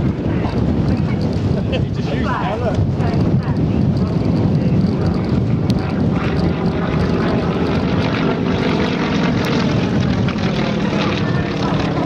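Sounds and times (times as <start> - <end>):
model plane engine and propeller: 0.0 - 12.0.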